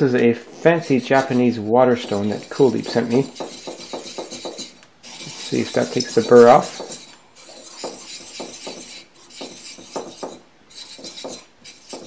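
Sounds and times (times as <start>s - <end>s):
knife scraping on water stone: 0.3s - 12.0s.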